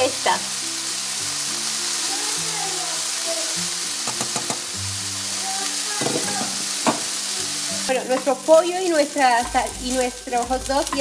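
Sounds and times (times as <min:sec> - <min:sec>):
background music: 0:00.0 - 0:11.0
food frying in oil: 0:00.0 - 0:11.0.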